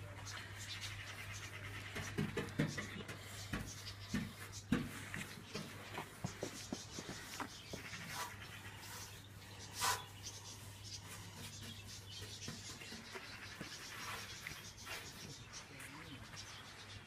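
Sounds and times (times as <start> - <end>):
paintbrush scrubbing on metal: 1.0 - 15.6.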